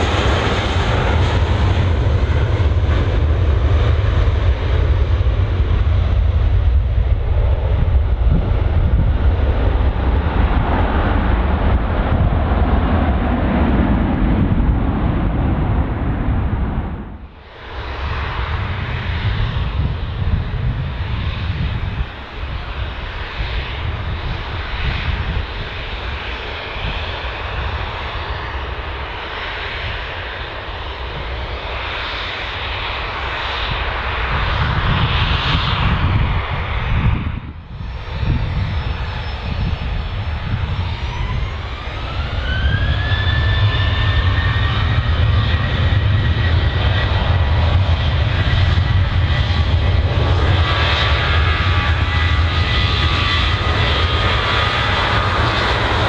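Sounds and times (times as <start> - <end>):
jet engine rushing: 0.0 - 56.0
jet engine spooling up whine: 0.0 - 56.0.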